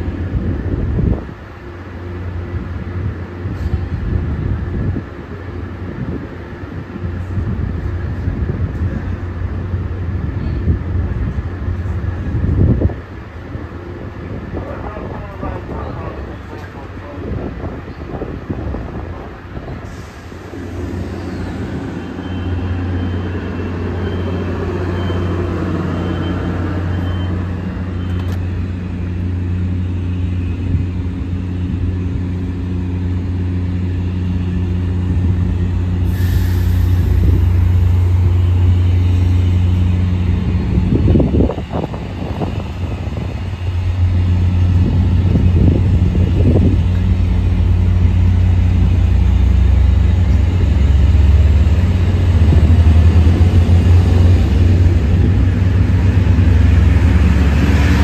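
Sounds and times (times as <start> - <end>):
diesel locomotive engine drone: 0.0 - 58.0
train cars rumbling by: 0.0 - 58.0.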